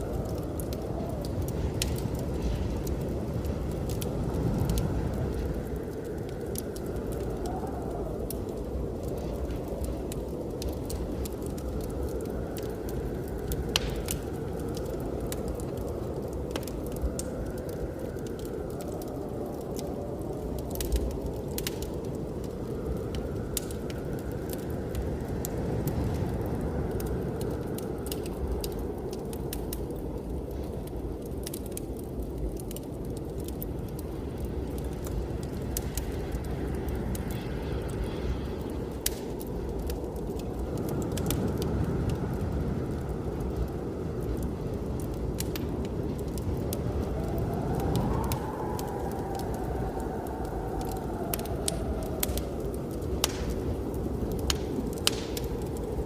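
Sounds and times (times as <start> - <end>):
snowstorm wind howling: 0.0 - 56.0
wood fire crackling: 0.0 - 56.0.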